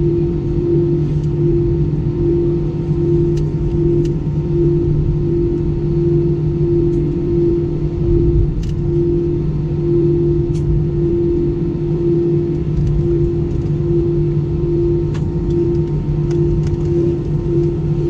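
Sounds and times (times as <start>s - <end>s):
airplane cabin droning rumble: 0.0s - 18.0s.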